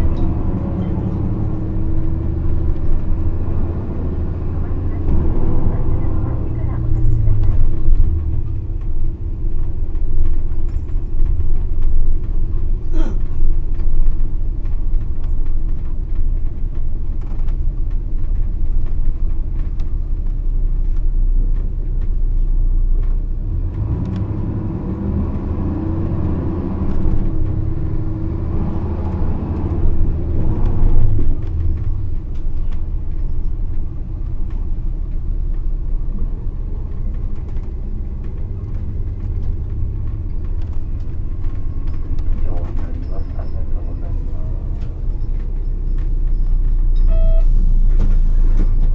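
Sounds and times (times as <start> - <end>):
diesel bus engine rumbling: 0.0 - 48.9.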